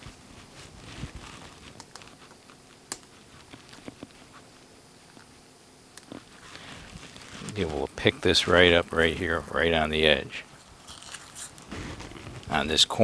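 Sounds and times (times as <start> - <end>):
tape being peeled off: 0.0 - 5.3, 6.0 - 9.4, 10.6 - 12.6
epoxy film crinkling and clicking: 0.6 - 5.3, 6.0 - 13.0.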